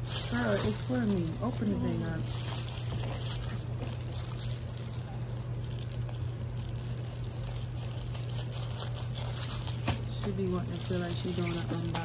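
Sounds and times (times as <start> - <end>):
packaging crinkling and tearing: 0.0 - 12.0
steady low hum: 0.0 - 12.0.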